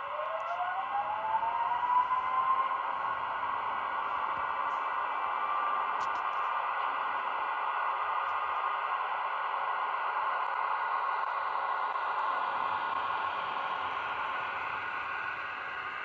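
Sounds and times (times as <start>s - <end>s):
electric locomotive whirring: 0.0s - 16.0s.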